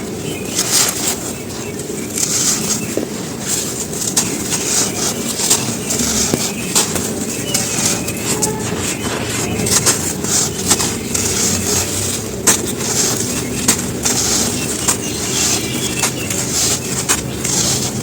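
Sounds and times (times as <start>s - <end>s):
charcoal blocks crunching: 0.0s - 18.0s.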